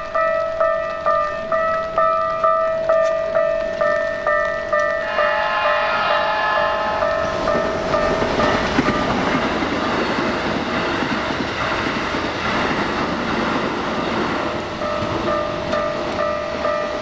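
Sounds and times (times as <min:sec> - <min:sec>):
crossing warning bell ringing: 0:00.0 - 0:11.9, 0:14.4 - 0:17.0
train wheels running over rails: 0:00.5 - 0:17.0.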